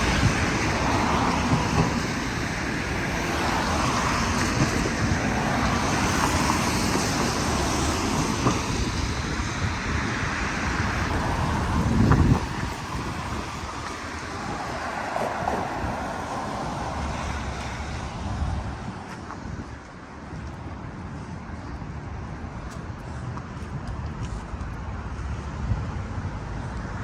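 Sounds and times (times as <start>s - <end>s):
city traffic noise: 0.0s - 27.0s
wind buffeting microphone: 0.0s - 27.0s.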